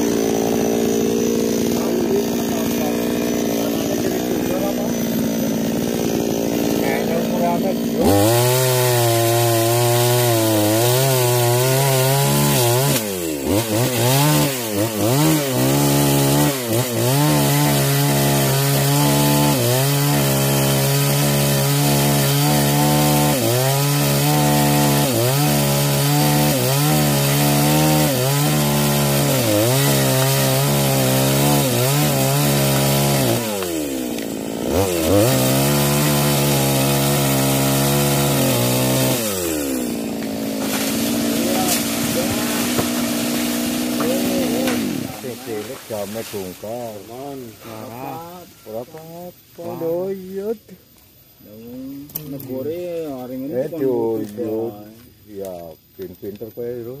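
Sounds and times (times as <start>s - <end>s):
chainsaw cutting wood: 0.0s - 48.2s.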